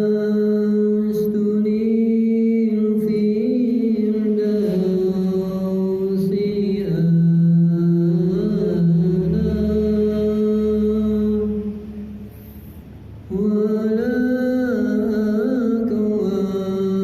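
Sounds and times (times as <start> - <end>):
slow wordless vocal chant: 0.0 - 17.0.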